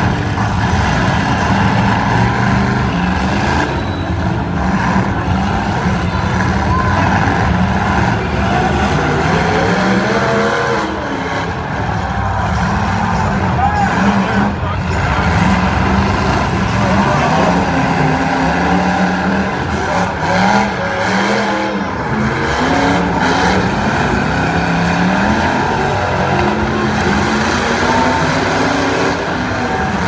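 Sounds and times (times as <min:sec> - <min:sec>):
car engines revving hard: 0:00.0 - 0:30.0
cars ramming: 0:00.0 - 0:30.0.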